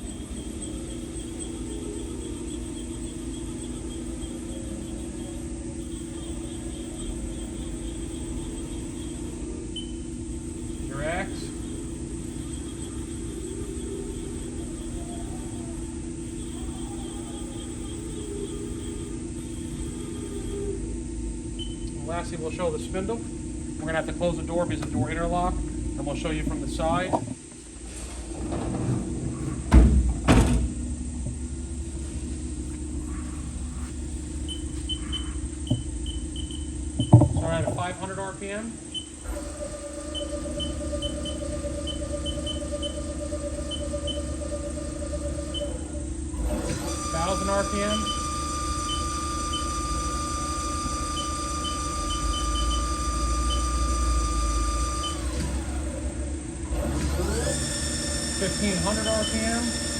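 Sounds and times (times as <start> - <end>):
machine low hum: 0.0 - 59.9.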